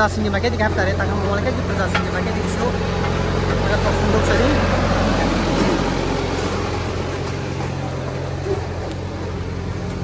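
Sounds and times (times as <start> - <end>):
machinery engine humming: 0.0 - 10.0.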